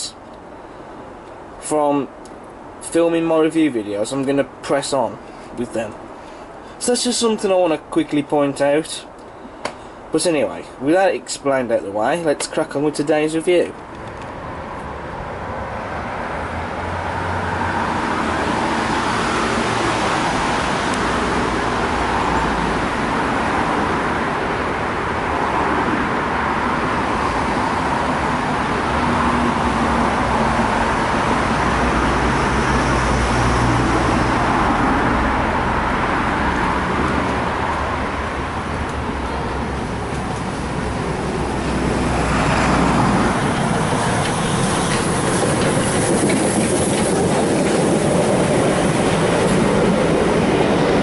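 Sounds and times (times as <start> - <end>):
rumbling vehicle noise: 0.0 - 51.0.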